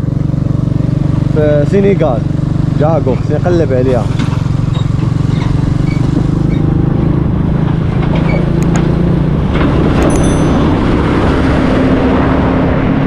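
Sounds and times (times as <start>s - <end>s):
moped engine running: 0.0s - 12.5s
lorry engine: 0.0s - 13.0s.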